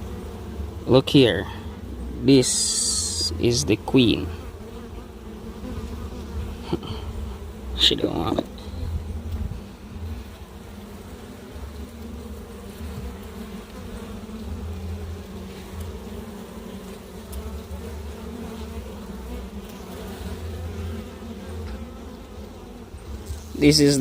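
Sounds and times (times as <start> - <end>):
honey bees buzzing: 0.0 - 24.0.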